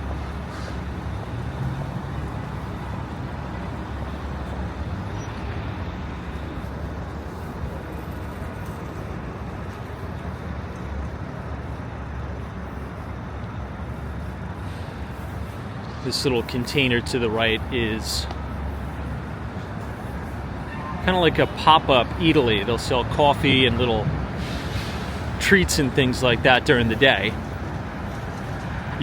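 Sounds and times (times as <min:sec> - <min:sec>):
city street traffic rumble: 0:00.0 - 0:29.0.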